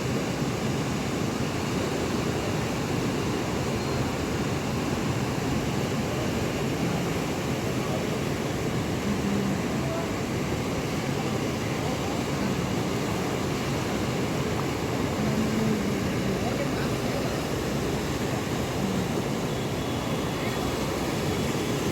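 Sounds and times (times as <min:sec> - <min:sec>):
surf on rough sea: 0:00.0 - 0:21.9
wind: 0:00.0 - 0:21.9.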